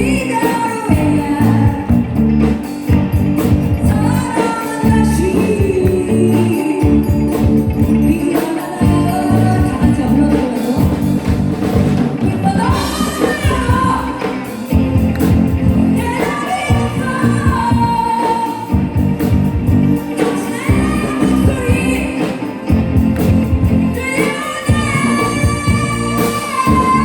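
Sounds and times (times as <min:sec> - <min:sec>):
person singing: 0:00.0 - 0:02.2, 0:03.7 - 0:11.4, 0:12.2 - 0:14.8, 0:15.9 - 0:19.0, 0:19.9 - 0:27.0
rock band playing live: 0:00.0 - 0:27.0.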